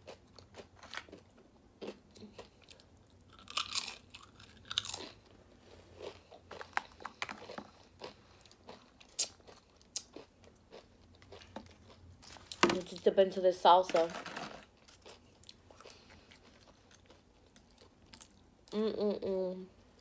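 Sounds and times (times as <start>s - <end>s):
chewing crunchy tortilla chip: 0.0s - 12.6s, 14.7s - 18.8s.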